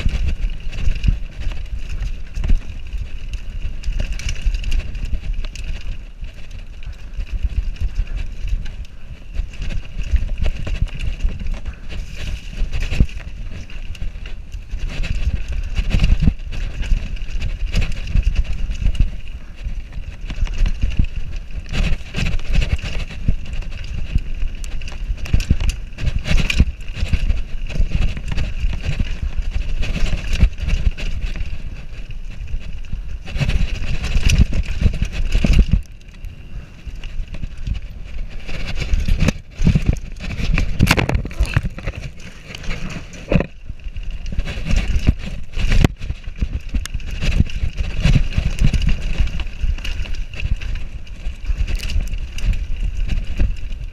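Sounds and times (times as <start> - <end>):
mountain bike rattling and knocking: 0.0 - 53.9.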